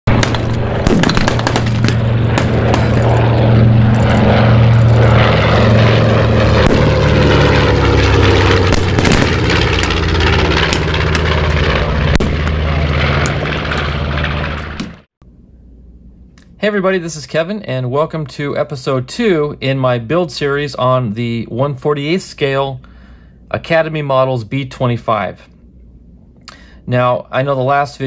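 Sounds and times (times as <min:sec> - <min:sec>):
propeller aircraft engine drone: 0:00.1 - 0:28.0.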